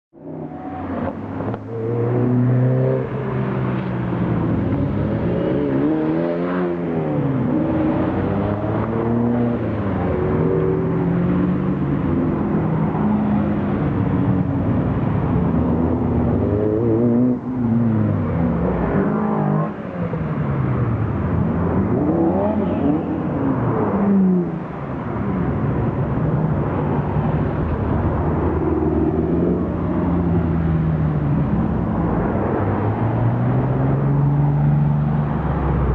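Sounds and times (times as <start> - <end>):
cars driving past: 0.2 - 35.9
sports car engines revving: 0.2 - 35.9.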